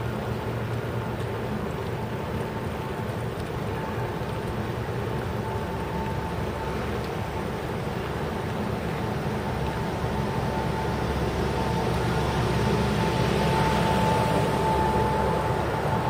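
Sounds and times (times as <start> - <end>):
street travel rumble and hiss: 0.0 - 16.0.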